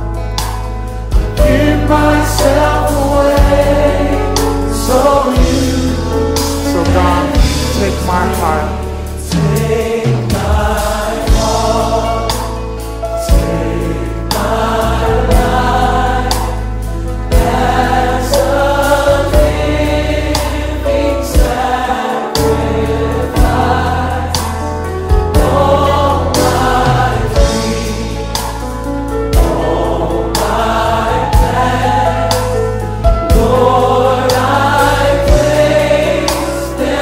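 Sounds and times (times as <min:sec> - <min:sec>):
choir singing gospel music: 0:00.0 - 0:37.0.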